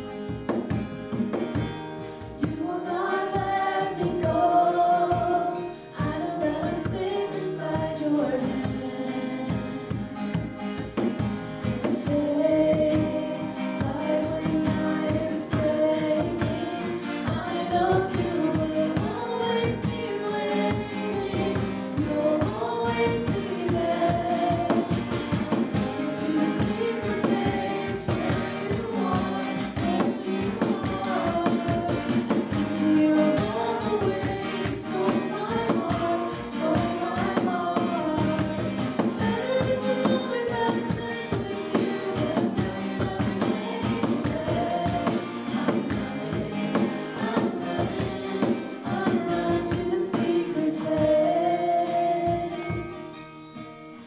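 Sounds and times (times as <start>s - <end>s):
cajon percussion: 0.0s - 53.2s
group singing together: 0.0s - 53.2s
acoustic guitar: 0.0s - 54.0s
keyboard: 0.0s - 54.0s.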